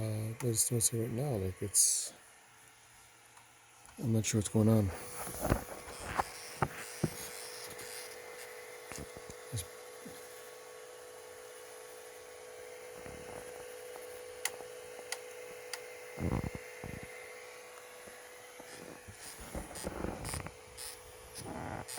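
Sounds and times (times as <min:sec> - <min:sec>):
printer humming with fan hiss: 0:00.0 - 0:21.9.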